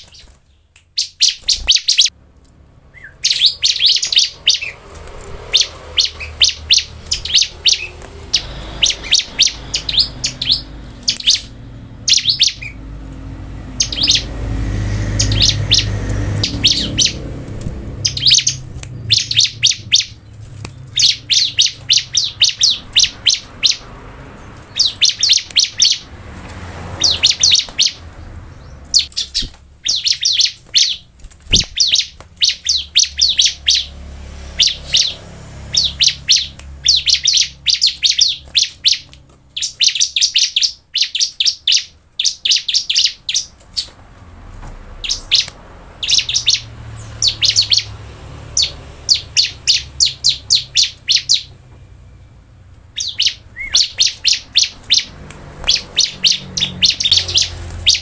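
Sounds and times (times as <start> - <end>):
bird singing high chirps: 0.0 - 2.2, 2.8 - 13.0, 13.6 - 26.1, 26.9 - 44.0, 45.0 - 52.3, 52.9 - 58.0.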